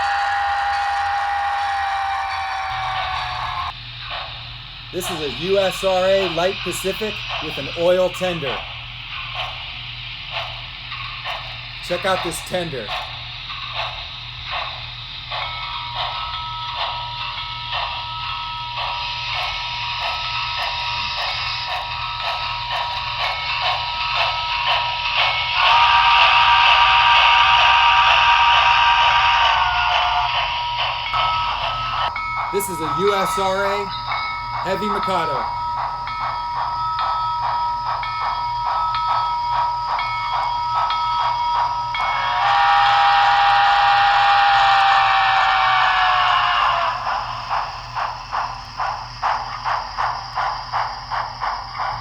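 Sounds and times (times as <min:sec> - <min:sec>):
model train steam chuffs: 0:00.0 - 0:52.0
steady whistle-like tone: 0:00.0 - 0:52.0
steam hiss: 0:00.0 - 0:52.0.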